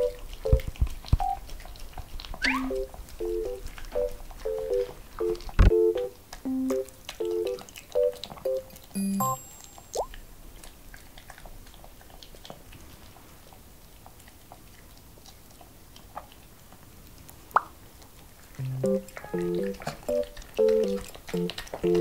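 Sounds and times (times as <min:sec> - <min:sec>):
dogs licking lips and chewing: 0:00.0 - 0:22.0.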